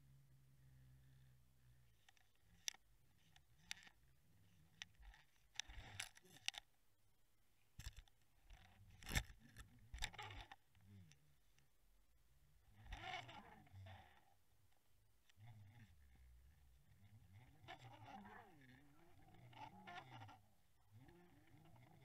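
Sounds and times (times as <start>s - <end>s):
faint irregular clicks: 0.0s - 6.9s, 7.6s - 22.0s.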